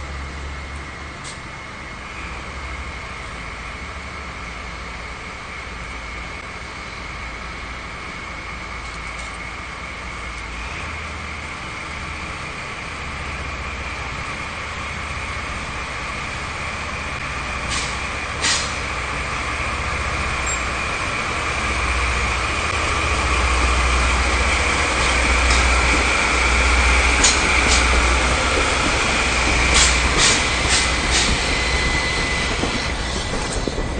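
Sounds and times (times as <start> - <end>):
diesel locomotive engine rumble: 0.0 - 33.9.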